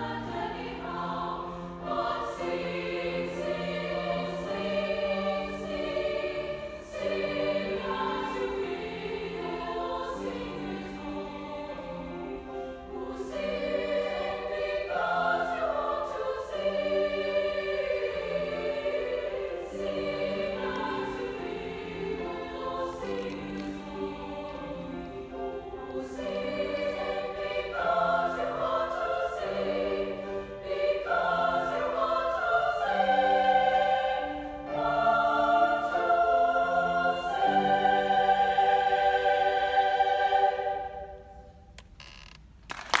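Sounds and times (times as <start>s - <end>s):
women's choir singing: 0.0s - 41.5s.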